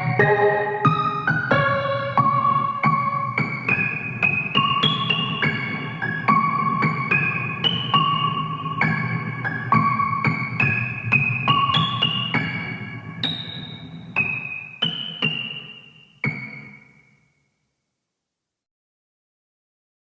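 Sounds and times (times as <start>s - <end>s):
electric piano notes: 0.0s - 16.8s.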